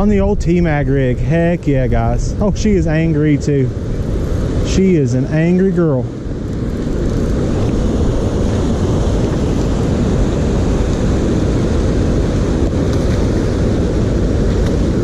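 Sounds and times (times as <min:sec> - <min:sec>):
water rushing over weir: 0:00.0 - 0:15.0.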